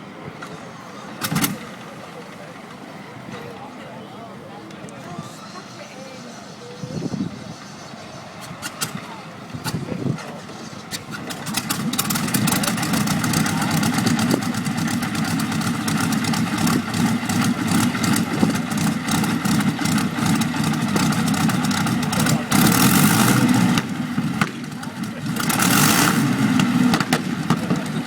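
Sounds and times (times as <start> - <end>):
aeroplane piston engine rattling: 0.4 - 3.5, 6.8 - 28.0.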